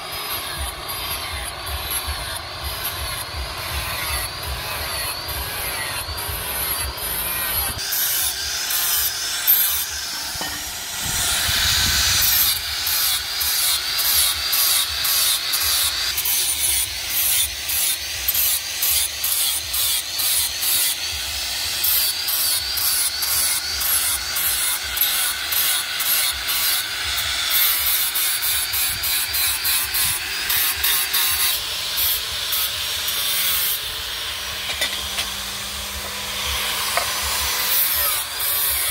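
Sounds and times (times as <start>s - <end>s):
angle grinder on steel blade: 0.0s - 38.9s.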